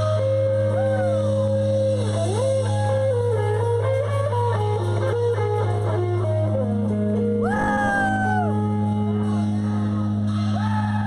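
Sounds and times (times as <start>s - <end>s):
guitar picking a melody: 0.0s - 10.3s.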